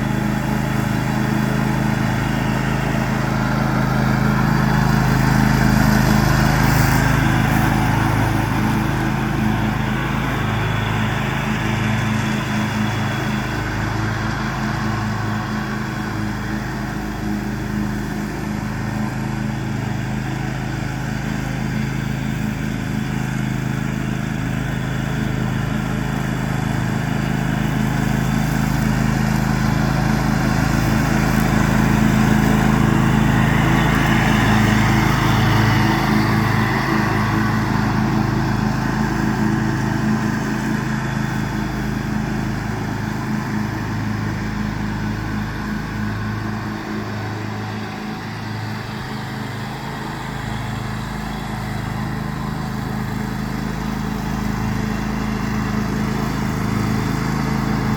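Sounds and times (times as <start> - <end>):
riding lawn mower engine: 0.0 - 57.9.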